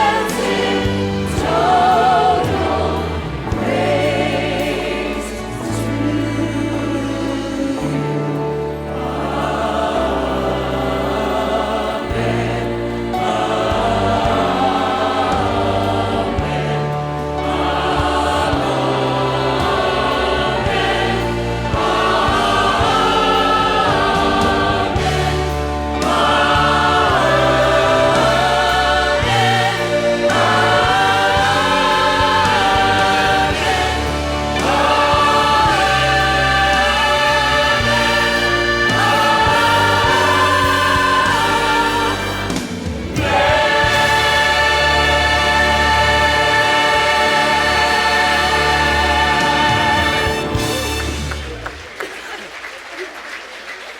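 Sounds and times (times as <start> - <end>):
choir singing gospel song: 0.0 - 51.9
instrumental accompaniment: 0.0 - 52.0.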